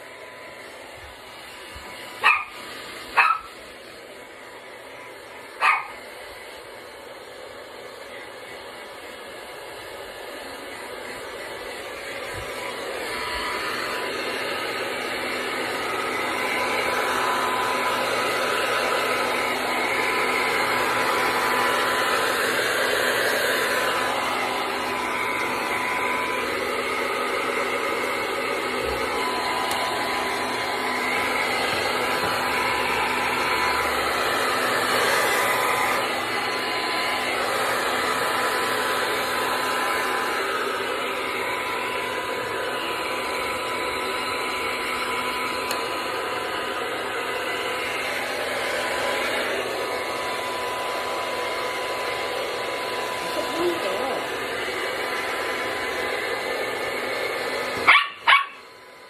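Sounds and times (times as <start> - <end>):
blow dryer blowing: 0.0 - 59.0.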